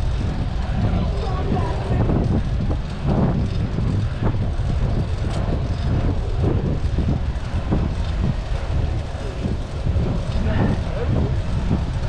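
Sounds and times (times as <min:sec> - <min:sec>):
low traffic rumble: 0:00.0 - 0:12.0
wind buffeting microphone: 0:00.0 - 0:12.0.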